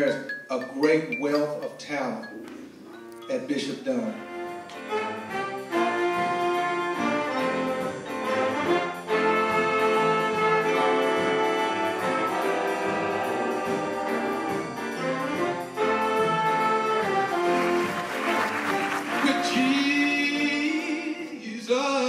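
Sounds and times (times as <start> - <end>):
jazz band playing held chords: 0.0 - 21.6.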